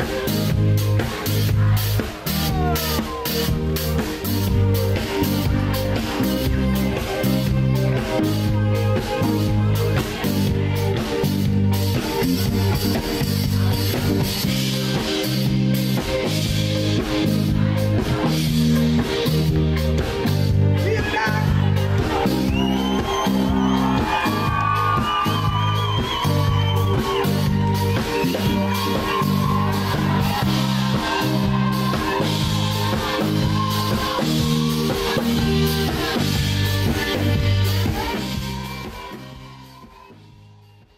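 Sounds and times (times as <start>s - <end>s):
pop-rock band music: 0.0s - 40.9s.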